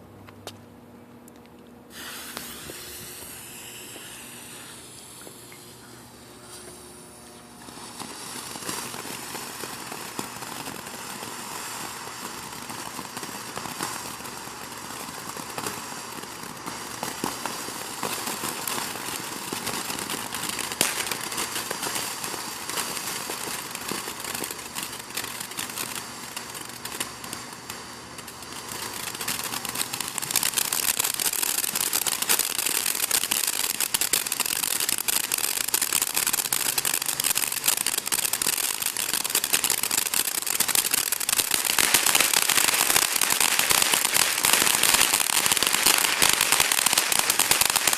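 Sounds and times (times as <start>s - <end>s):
firework fountain hissing and crackling: 1.9s - 47.9s.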